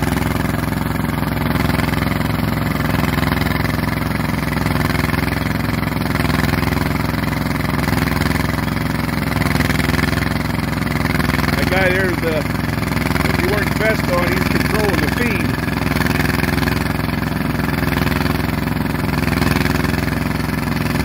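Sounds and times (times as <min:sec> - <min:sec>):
boring machine engine running: 0:00.0 - 0:21.0.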